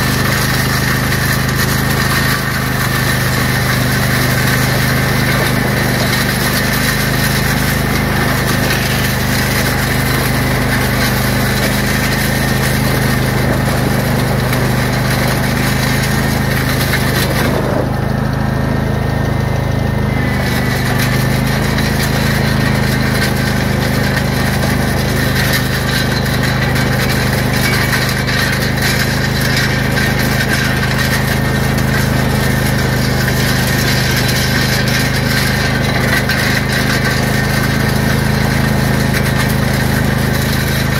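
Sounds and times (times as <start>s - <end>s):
lawn tractor engine: 0.0s - 40.9s
steel scraping through gravel: 0.0s - 40.9s.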